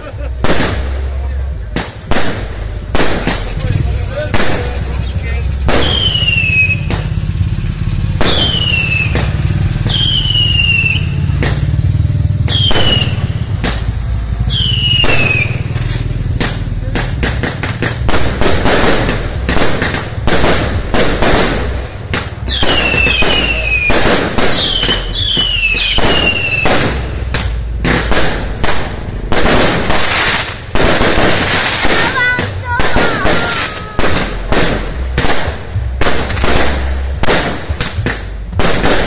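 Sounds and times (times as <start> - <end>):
firecrackers banging: 0.0 - 39.0
whistling fireworks: 1.8 - 11.8, 12.4 - 39.0.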